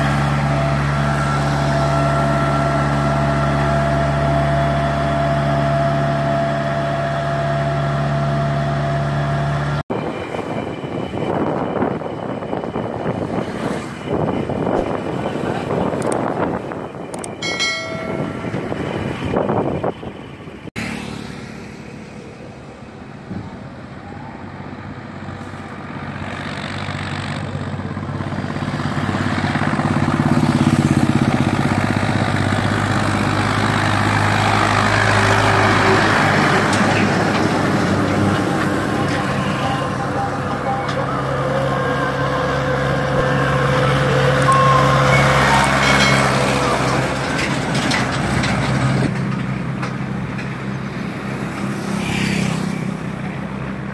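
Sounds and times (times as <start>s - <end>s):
road noise: 0.0s - 53.9s
tractor diesel engine running: 0.0s - 53.9s
wind: 0.0s - 53.9s.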